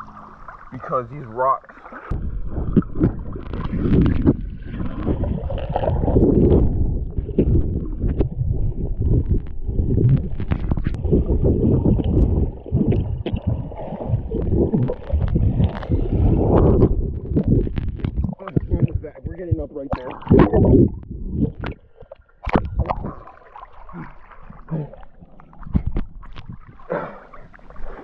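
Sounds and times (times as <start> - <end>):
muffled underwater churning: 0.0 - 28.0.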